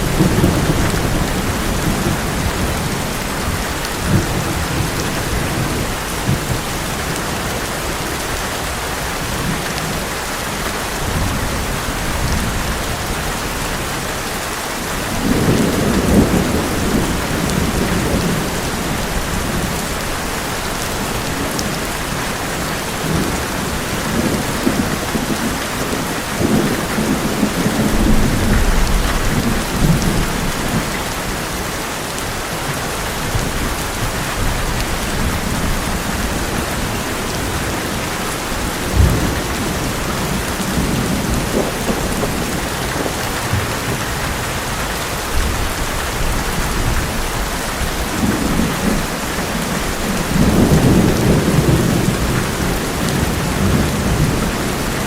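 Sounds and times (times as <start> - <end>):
thunder rumbling: 0.0 - 7.7, 14.8 - 31.7, 32.3 - 55.0
heavy rain on a metal roof: 0.0 - 55.0.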